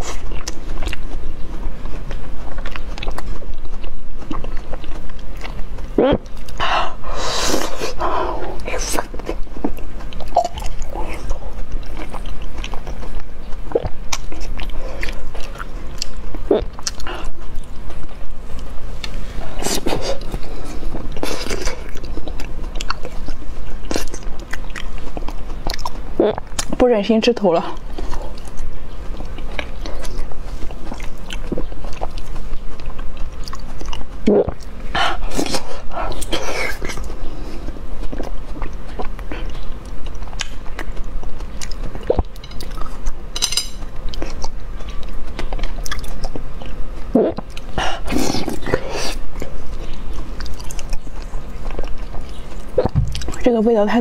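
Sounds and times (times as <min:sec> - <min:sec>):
wet chewing mouth clicks: 0:00.0 - 0:26.8, 0:27.6 - 0:43.2, 0:43.8 - 0:53.5.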